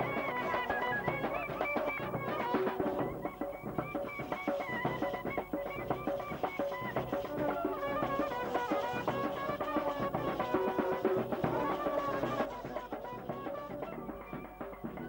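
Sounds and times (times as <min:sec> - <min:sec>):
upbeat traditional band music: 0:00.0 - 0:15.0.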